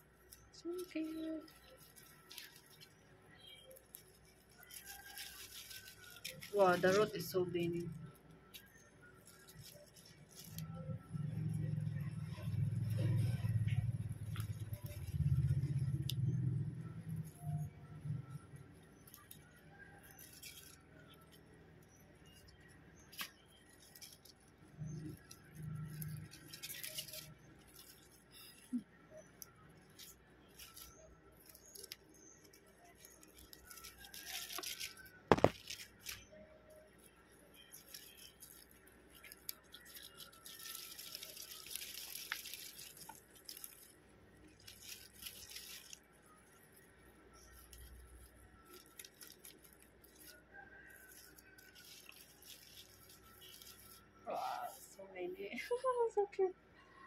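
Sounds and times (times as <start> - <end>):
leaves rustling and crackling: 0.0 - 55.8.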